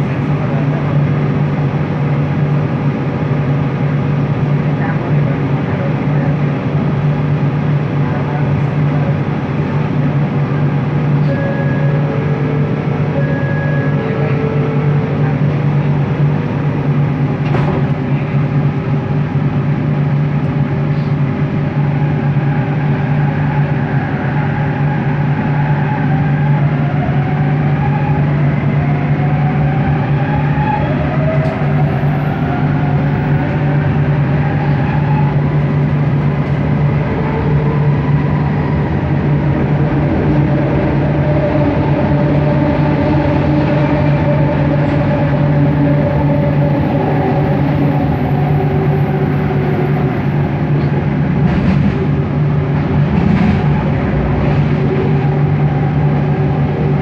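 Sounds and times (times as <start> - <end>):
train motor hum and whine: 0.0 - 57.0.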